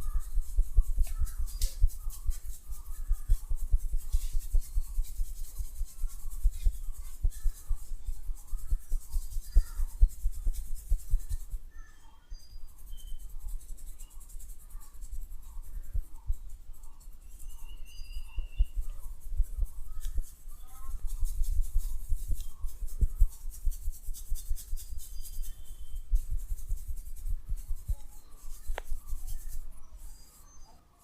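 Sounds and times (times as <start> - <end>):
hands rubbing skin and hair: 0.0 - 11.7, 12.6 - 30.7
soft patting on skin: 0.0 - 11.7, 12.7 - 30.5.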